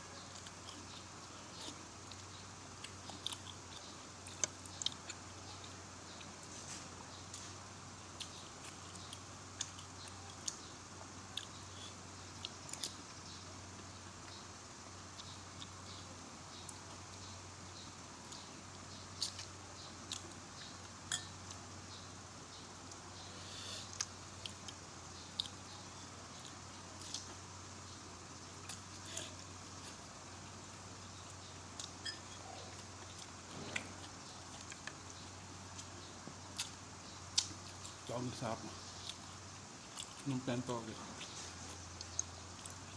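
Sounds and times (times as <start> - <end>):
steady low hum: 0.0 - 42.9
person chewing porridge: 0.2 - 21.6, 23.6 - 40.6, 41.2 - 42.9
eating sounds: 0.3 - 17.3, 22.8 - 42.9.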